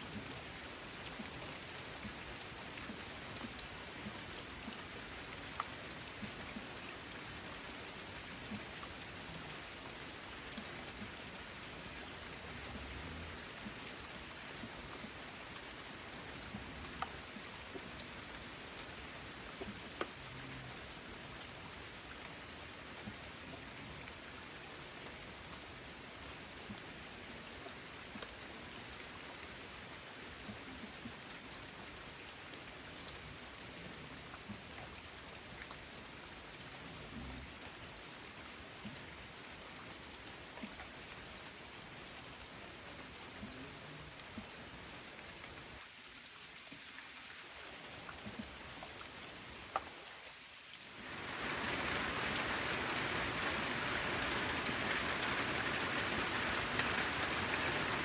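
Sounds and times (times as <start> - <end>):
rain on a metal roof: 0.0 - 58.0.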